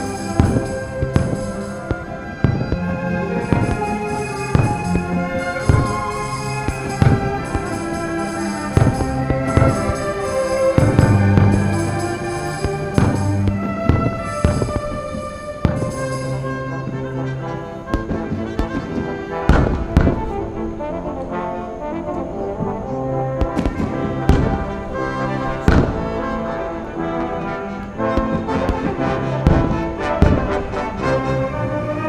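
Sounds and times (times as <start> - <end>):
fireworks bursting: 0.0 - 32.0
orchestral music: 0.0 - 32.0.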